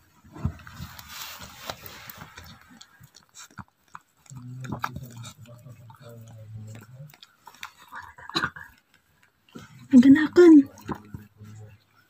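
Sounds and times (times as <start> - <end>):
wet clicking and smacking: 1.6 - 11.4.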